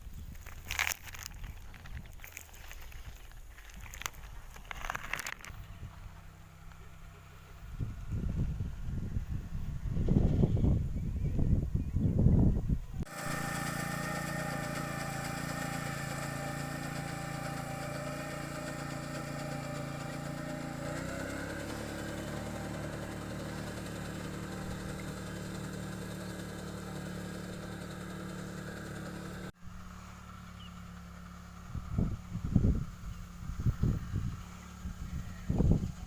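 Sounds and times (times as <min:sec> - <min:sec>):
small engine running: 0:00.0 - 0:11.1, 0:13.0 - 0:36.0.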